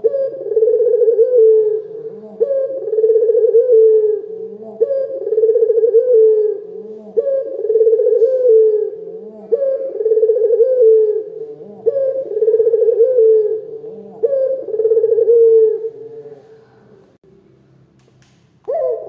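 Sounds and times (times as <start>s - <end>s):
dove cooing: 0.0s - 17.0s, 18.7s - 19.0s.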